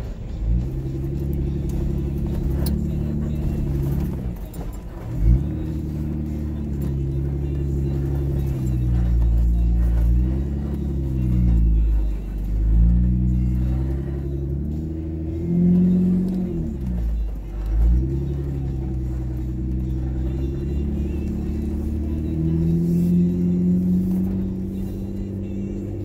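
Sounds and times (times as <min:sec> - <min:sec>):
deep engine rumble: 0:00.0 - 0:26.0
vehicle engine revving: 0:00.0 - 0:26.0.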